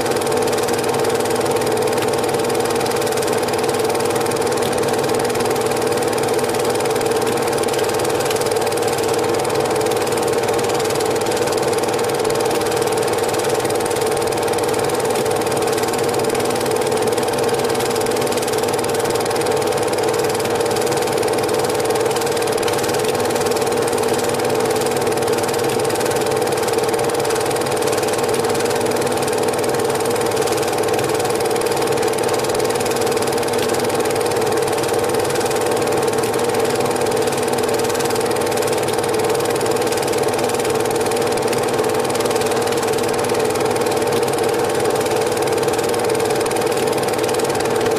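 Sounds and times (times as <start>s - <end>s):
film projector whirring: 0.0s - 47.9s.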